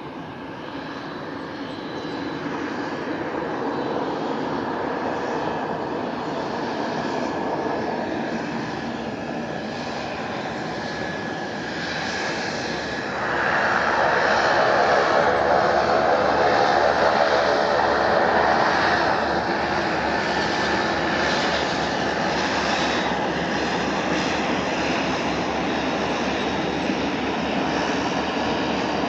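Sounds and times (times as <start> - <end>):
airplane engine noise: 0.0 - 29.0.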